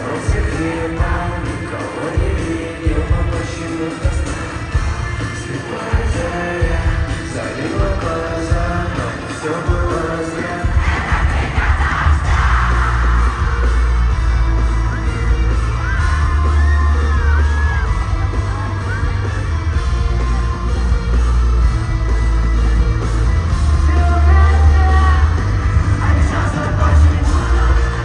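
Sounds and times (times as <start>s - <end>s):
live rock band playing: 0.0s - 28.0s
voices singing and yelling: 0.0s - 28.0s.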